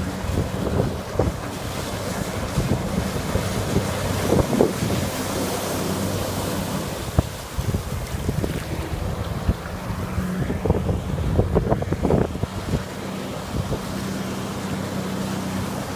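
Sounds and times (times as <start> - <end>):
jet ski engine hum: 0.0 - 15.9
water rushing: 0.0 - 15.9
wind noise on microphone: 0.0 - 15.9.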